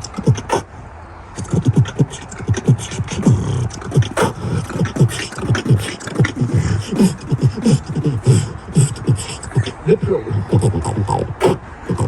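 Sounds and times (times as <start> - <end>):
beatboxing vocal beat: 0.0 - 0.7, 1.4 - 12.0.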